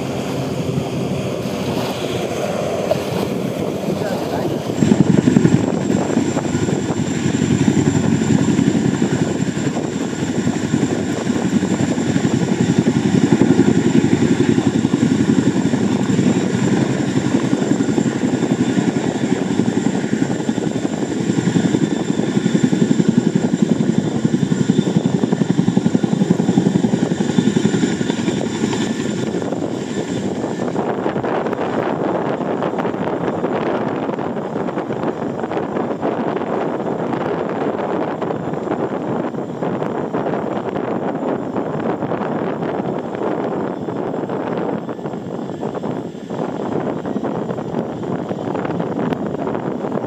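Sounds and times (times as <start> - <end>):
helicopter rotors chopping: 0.0 - 50.0.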